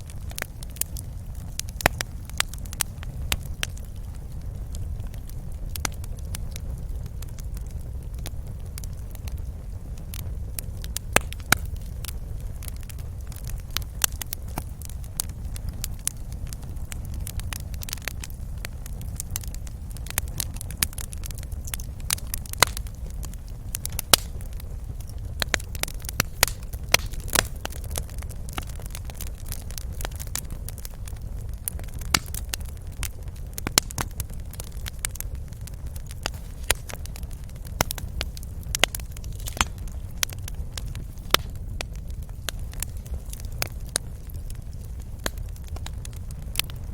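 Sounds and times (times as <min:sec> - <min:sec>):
fire snaps and pops: 0:00.0 - 0:46.9
low rumble of fire burning: 0:00.0 - 0:46.9.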